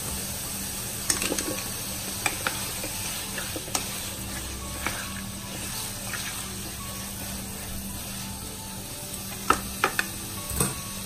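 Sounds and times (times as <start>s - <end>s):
sausage sizzling in oil: 0.0s - 11.0s.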